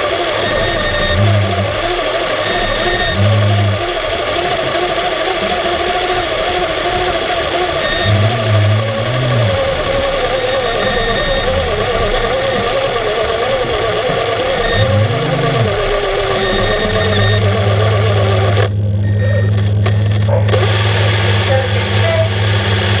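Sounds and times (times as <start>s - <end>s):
deeper hum: 0.0s - 23.0s
underwater machinery hum: 0.0s - 23.0s
wavering whine: 0.0s - 23.0s.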